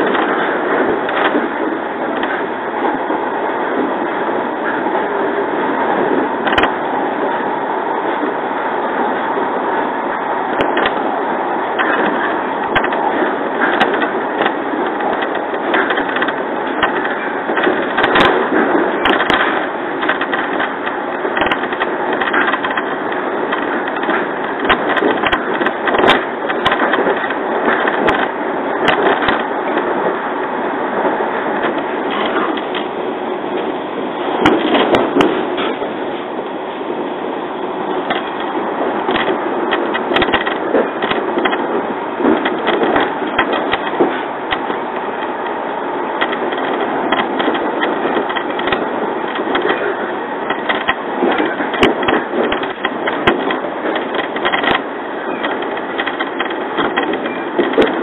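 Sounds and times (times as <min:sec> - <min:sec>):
train wheels and motors running: 0:00.0 - 0:58.0.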